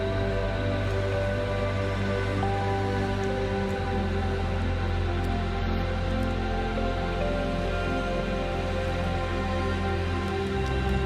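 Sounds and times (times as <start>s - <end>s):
calm sustained music notes: 0.0s - 11.0s
low steady drone: 0.0s - 11.0s.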